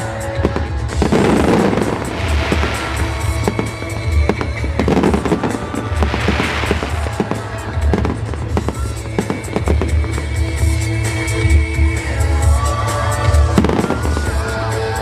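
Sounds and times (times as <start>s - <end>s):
fireworks bangs and crackles: 0.0s - 15.0s
music playing: 0.0s - 15.0s.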